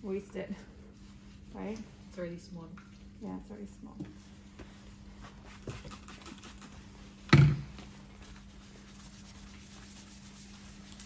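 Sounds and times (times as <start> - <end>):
ventilation hood hum: 0.0 - 11.0.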